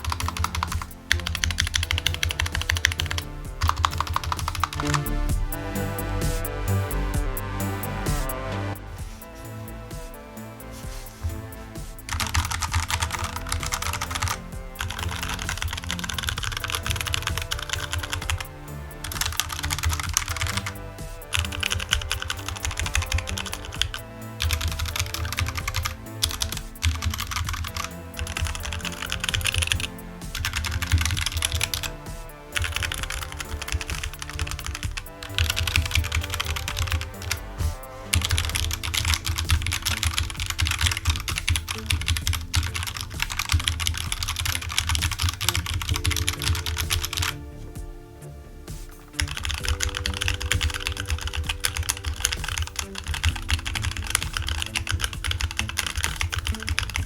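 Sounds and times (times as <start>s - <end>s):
mechanical keyboard typing: 0.0s - 5.1s, 12.1s - 32.0s, 32.6s - 47.4s, 48.9s - 57.0s
background music: 0.0s - 57.0s.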